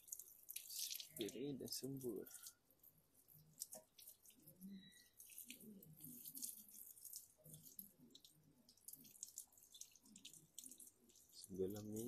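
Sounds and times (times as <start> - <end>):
liquid dripping and trickling: 0.0 - 12.0.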